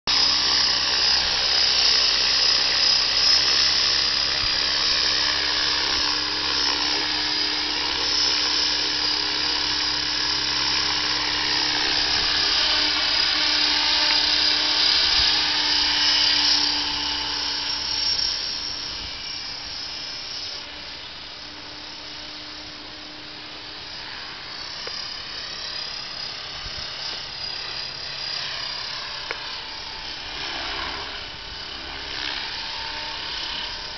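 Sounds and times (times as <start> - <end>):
rc helicopter motor whine: 0.1 - 33.9.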